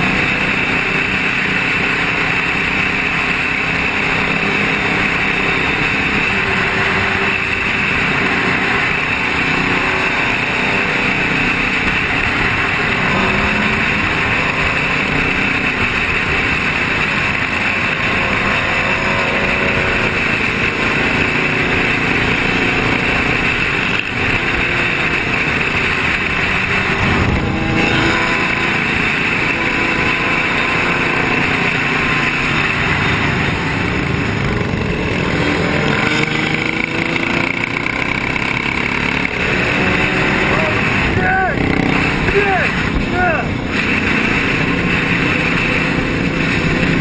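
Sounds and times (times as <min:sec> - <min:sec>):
motorcycle engines running: 0:00.0 - 0:47.0
wind and road noise: 0:00.0 - 0:47.0.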